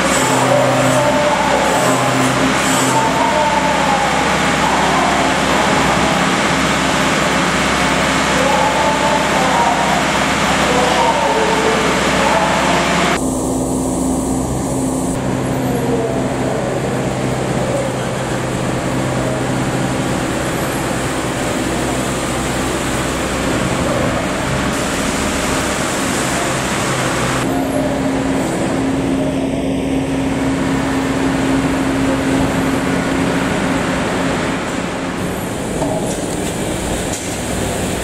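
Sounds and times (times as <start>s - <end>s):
car and truck engines passing: 0.0s - 38.0s
steady low hum: 0.0s - 38.0s.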